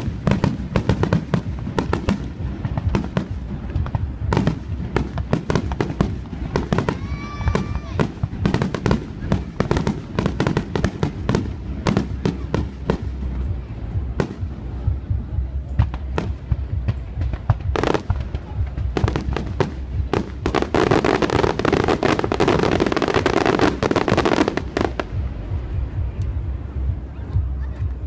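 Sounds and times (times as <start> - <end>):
fireworks bangs and pops: 0.0 - 26.4
rapid fireworks crackling: 0.0 - 28.0.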